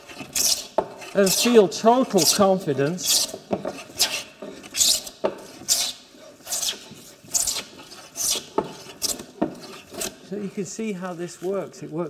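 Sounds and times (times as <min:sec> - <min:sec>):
plane swishing on wood: 0:00.0 - 0:10.3.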